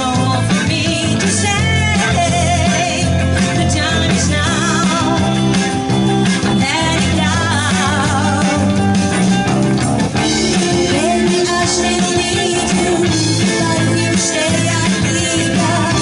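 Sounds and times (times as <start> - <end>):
person singing: 0.0 - 9.0, 10.2 - 16.0
drum kit: 0.0 - 16.0
electric guitar: 0.0 - 16.0.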